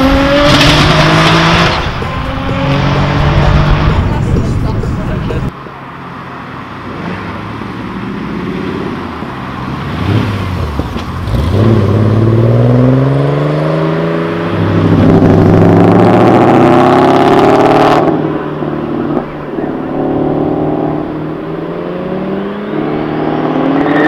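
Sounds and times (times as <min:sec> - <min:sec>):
car engine revving and accelerating: 0:00.0 - 0:05.5, 0:06.8 - 0:24.0.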